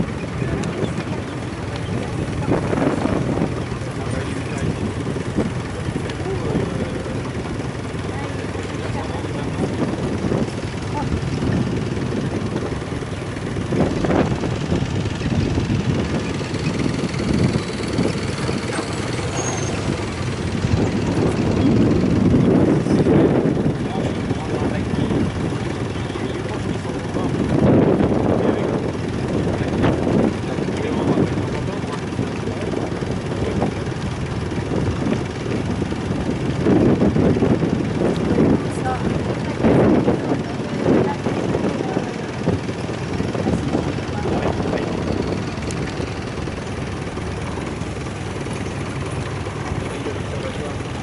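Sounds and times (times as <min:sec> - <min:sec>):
motorboat engine rumbling: 0:00.0 - 0:51.0
wind buffeting microphone: 0:00.0 - 0:51.0.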